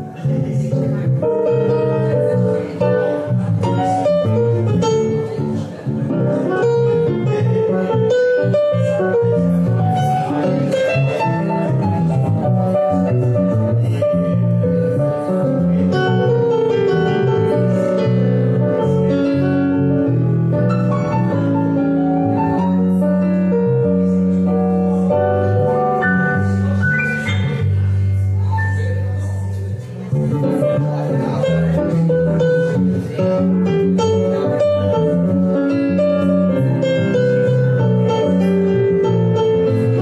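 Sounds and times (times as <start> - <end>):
digital piano chords and melody: 0.0 - 40.0
electric bass low notes: 0.0 - 40.0.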